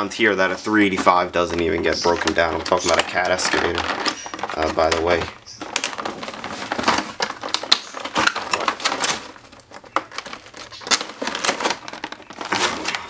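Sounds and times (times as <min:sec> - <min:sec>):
plastic packaging crinkling: 0:00.0 - 0:13.0
shredded paper rustling: 0:00.0 - 0:13.0.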